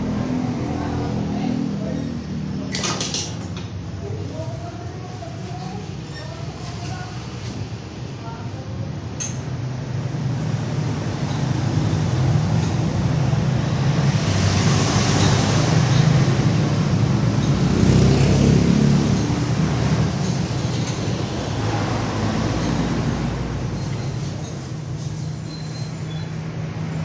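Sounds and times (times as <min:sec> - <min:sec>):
rumble of motor traffic: 0:00.0 - 0:27.0.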